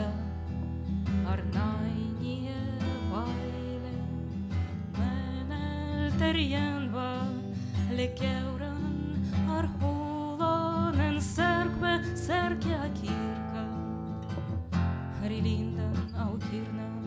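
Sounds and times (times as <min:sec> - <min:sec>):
woman singing with vibrato: 0:00.0 - 0:00.4, 0:01.1 - 0:14.2, 0:15.1 - 0:17.0
acoustic guitar: 0:00.0 - 0:17.0.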